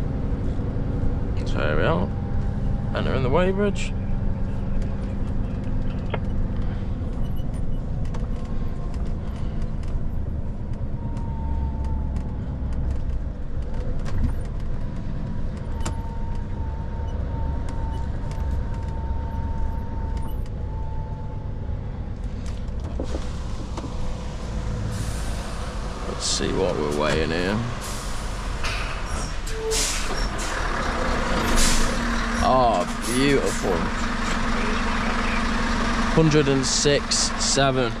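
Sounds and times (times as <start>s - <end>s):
truck diesel engine rumbling: 0.0s - 38.0s.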